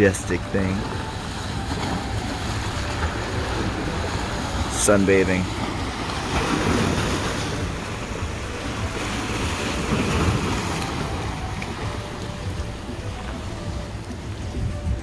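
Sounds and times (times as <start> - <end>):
waves washing over rocks: 0.0 - 15.0
wind rumbling on microphone: 0.0 - 15.0.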